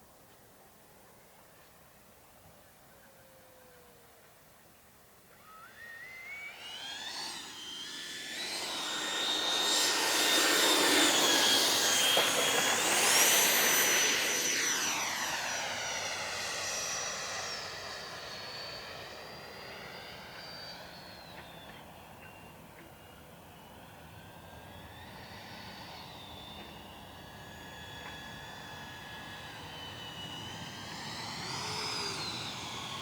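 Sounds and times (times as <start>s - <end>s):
model jet fan whining: 5.2s - 33.0s.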